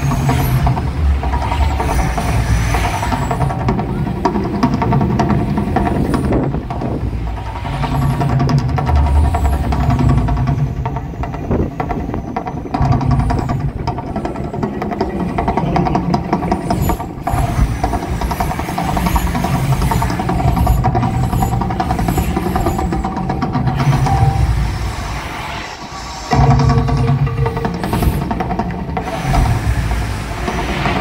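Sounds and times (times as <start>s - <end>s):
deep rumble from sound system: 0.0s - 31.0s.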